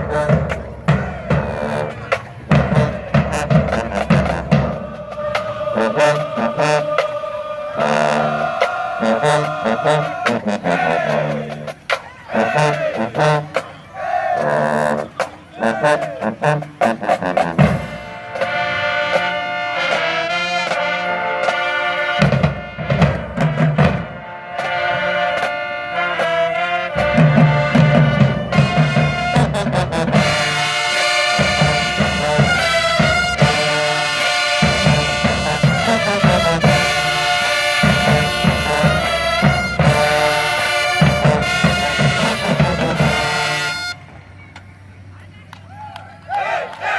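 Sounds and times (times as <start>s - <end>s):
drumline beating: 0.0s - 46.9s
marching band brass: 0.0s - 46.9s.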